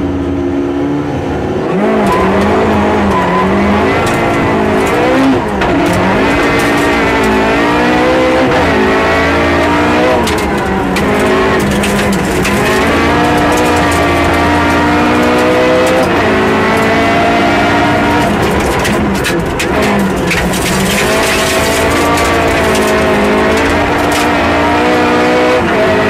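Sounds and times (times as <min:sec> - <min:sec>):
rally car engine revving: 0:00.0 - 0:26.0
gravel striking car: 0:01.9 - 0:26.0.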